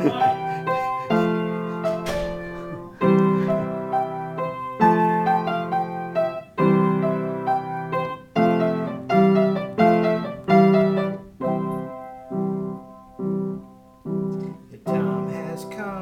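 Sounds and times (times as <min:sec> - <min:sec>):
piano chords and melody: 0:00.0 - 0:16.0.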